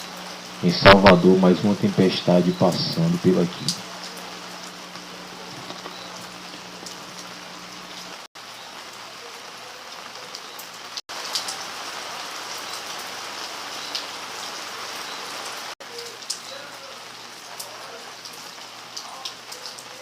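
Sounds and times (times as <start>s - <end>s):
raindrops ticking: 0.0s - 9.2s, 9.9s - 14.2s, 15.0s - 20.0s
rain hissing: 0.0s - 20.0s.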